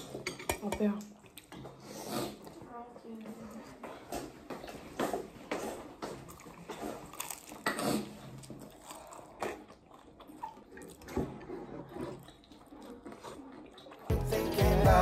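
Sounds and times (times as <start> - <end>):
person chewing food: 1.0 - 2.6, 3.2 - 14.4.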